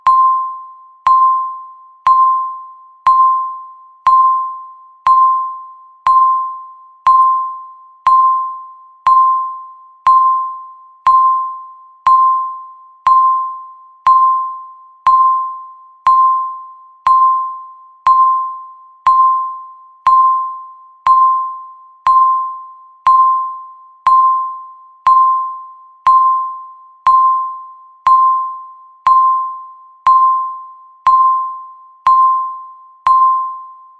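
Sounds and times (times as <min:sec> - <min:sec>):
countdown timer beeps: 0:00.0 - 0:33.9.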